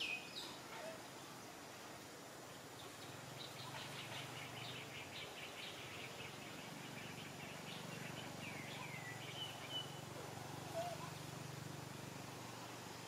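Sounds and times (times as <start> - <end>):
small birds chirping: 0.0 - 13.0
steady low hum: 1.0 - 13.0.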